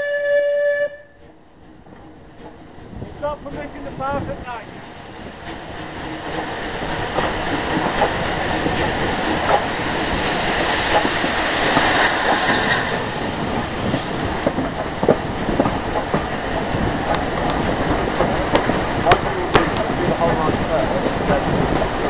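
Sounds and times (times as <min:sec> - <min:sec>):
steam locomotive exhaust rushing: 0:00.0 - 0:22.0
wheels clicking on rails: 0:00.8 - 0:22.0.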